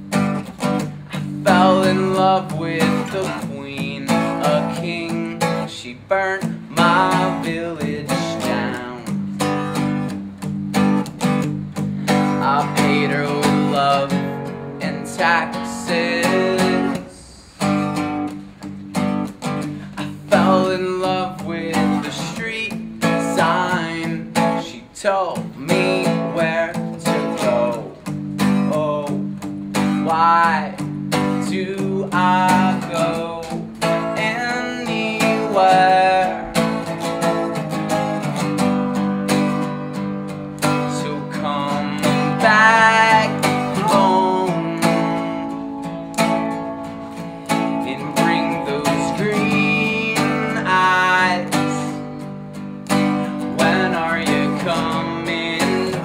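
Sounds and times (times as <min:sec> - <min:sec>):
strummed acoustic guitar: 0:00.0 - 0:56.0
man singing: 0:00.8 - 0:09.9, 0:12.0 - 0:18.0, 0:19.7 - 0:38.6, 0:40.2 - 0:52.3, 0:52.9 - 0:56.0.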